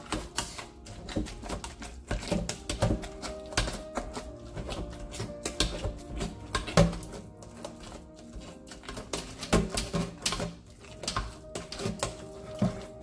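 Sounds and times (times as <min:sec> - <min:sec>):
background music: 0:00.0 - 0:13.0
potato masher clacking on metal pot: 0:00.0 - 0:13.0.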